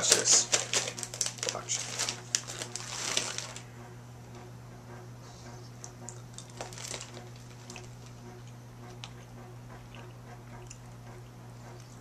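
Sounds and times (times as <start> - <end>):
person chewing candy: 0.0 - 3.6, 5.8 - 12.0
steady low hum: 0.0 - 12.0.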